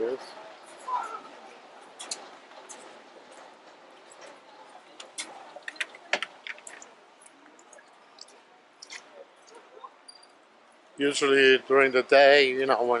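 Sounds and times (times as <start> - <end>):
steady outdoor hiss: 0.0 - 13.0
light rain ticks and drips: 1.7 - 13.0.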